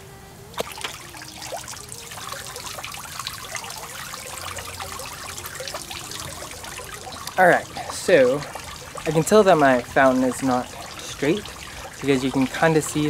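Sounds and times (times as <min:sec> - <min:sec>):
fountain water splashing: 0:00.5 - 0:13.0.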